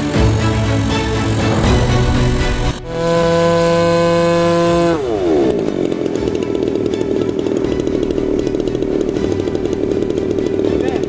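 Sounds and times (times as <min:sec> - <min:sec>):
model plane engine: 0:00.0 - 0:11.0.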